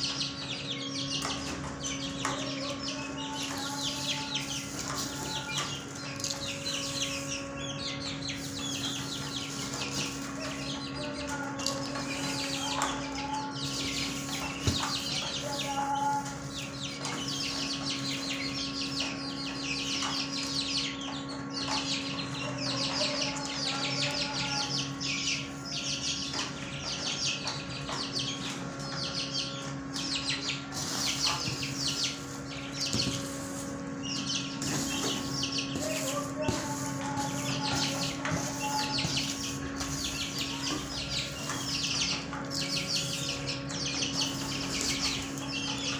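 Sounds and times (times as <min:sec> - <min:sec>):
caged birds chirping: 0:00.0 - 0:45.9.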